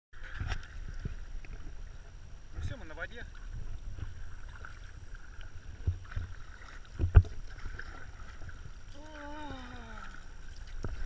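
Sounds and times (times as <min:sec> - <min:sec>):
paddle knocking boat and water: 0:00.2 - 0:11.0
wind rumble on microphone: 0:00.2 - 0:11.0.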